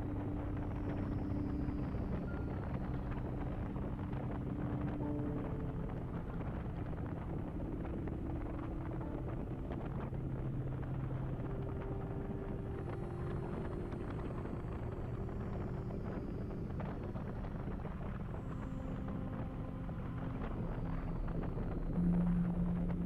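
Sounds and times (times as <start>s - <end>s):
wind noise: 0.0s - 23.0s.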